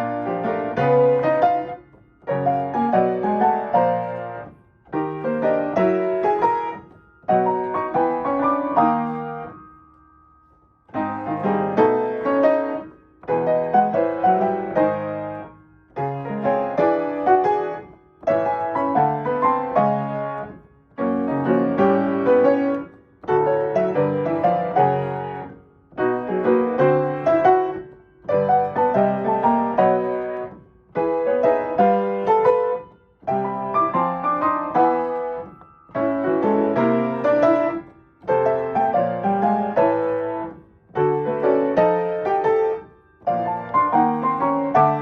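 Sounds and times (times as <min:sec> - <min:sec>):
solo jazz piano: 0:00.0 - 0:45.0.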